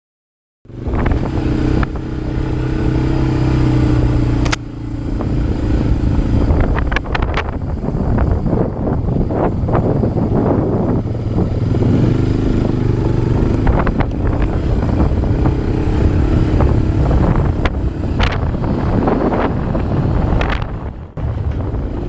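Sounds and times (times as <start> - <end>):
atv engine running: 0.7 - 22.0
wind on microphone: 0.7 - 22.0.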